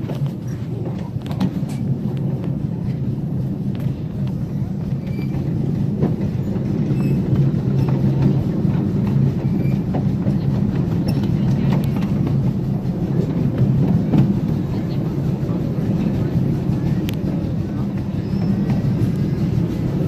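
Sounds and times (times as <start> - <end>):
train cars rumbling on rails: 0.0 - 20.0
wheels clacking over track: 0.0 - 20.0.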